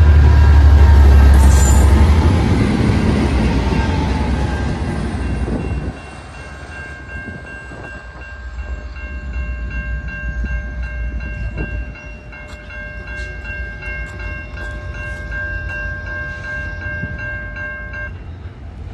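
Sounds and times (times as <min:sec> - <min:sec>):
diesel locomotive rumble: 0:00.0 - 0:17.6
crossing warning bell ringing: 0:00.0 - 0:18.9.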